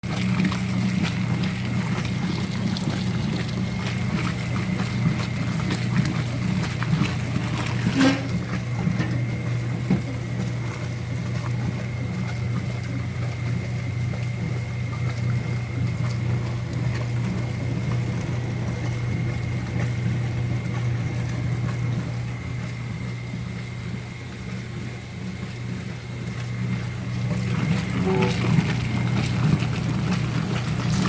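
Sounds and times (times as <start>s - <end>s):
water noise: 0.0s - 23.4s, 25.4s - 31.0s
washing machine motor hum: 0.0s - 31.0s.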